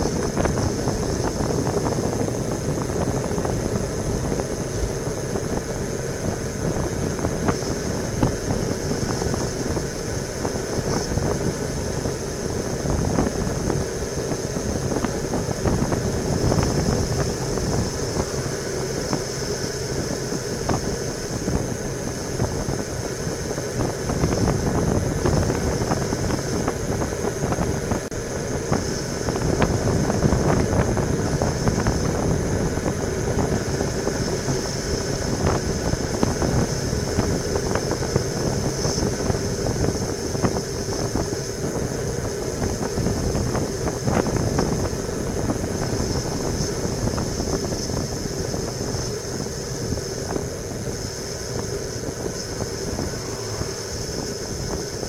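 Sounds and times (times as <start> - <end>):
faint high whine: 0.0 - 55.0
wind rumbling over microphone: 0.0 - 55.0.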